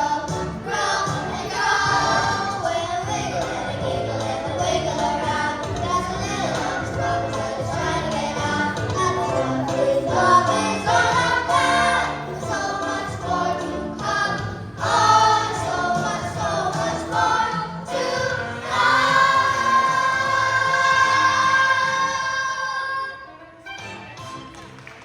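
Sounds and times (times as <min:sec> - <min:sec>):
choir singing gospel song: 0:00.0 - 0:23.2
musical accompaniment: 0:00.0 - 0:25.0.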